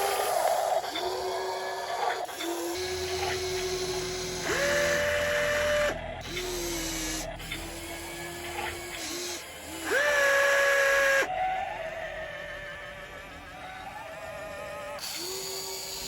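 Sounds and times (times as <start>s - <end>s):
toy gear motors whining: 0.0s - 16.0s.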